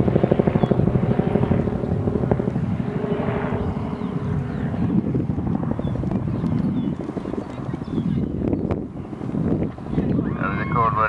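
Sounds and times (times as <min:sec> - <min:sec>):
engine running with low throb: 0:00.0 - 0:10.2.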